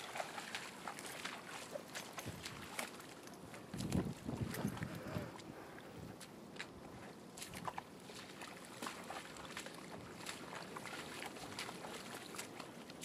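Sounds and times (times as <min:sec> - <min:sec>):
boots sloshing through muddy water: 0:00.0 - 0:13.0.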